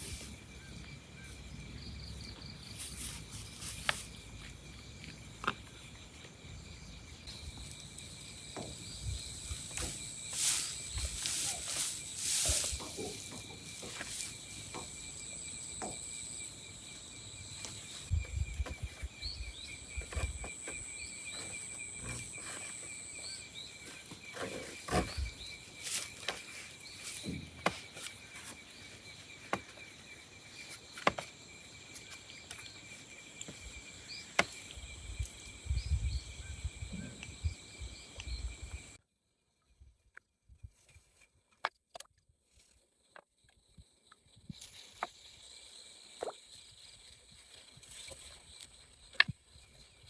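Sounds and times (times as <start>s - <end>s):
insects trilling: 0.0s - 39.0s, 43.0s - 50.0s.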